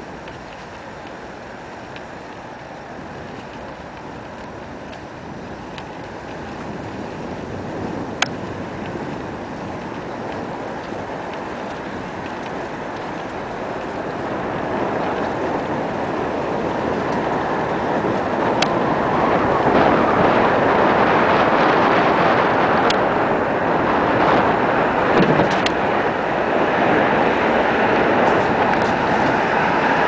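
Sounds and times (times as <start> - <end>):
wind rushing on microphone: 0.0 - 30.0.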